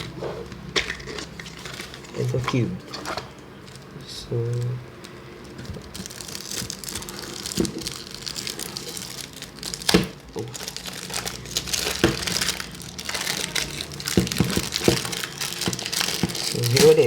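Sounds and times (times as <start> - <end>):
crinkling plastic wrapping: 0.0 - 17.0.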